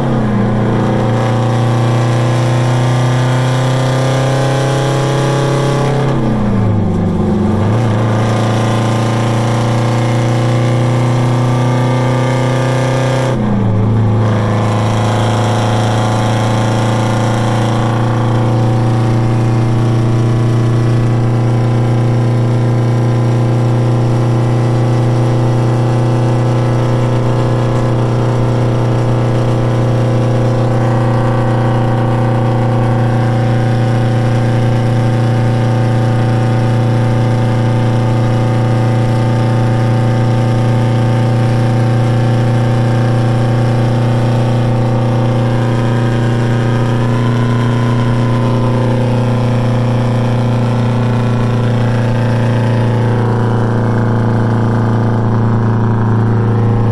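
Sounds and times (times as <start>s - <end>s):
diesel truck engine drone: 0.0s - 56.9s.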